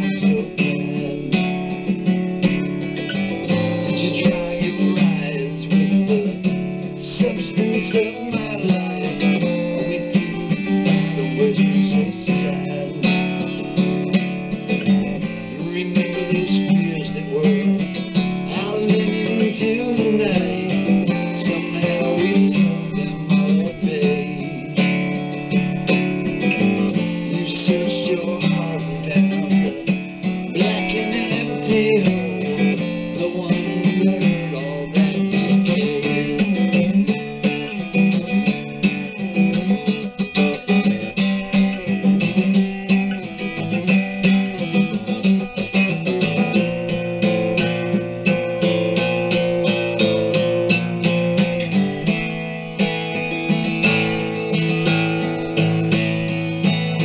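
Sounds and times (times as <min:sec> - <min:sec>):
guitar picked and strummed: 0:00.0 - 0:57.0.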